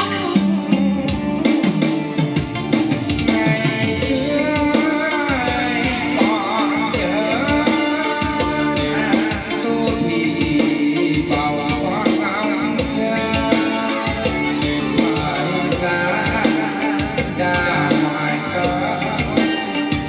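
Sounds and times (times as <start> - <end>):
drums: 0.0 - 20.0
person singing with vibrato: 0.0 - 20.0
song over loudspeakers: 0.0 - 20.0.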